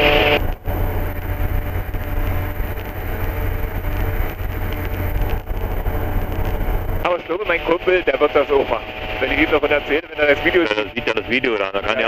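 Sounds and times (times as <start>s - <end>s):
ultralight aircraft engine drone: 0.0s - 12.0s.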